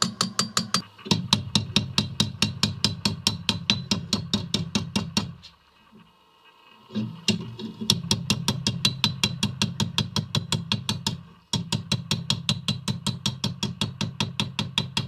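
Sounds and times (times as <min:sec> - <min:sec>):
hammer striking steel on anvil: 0:00.0 - 0:05.4, 0:07.3 - 0:15.0.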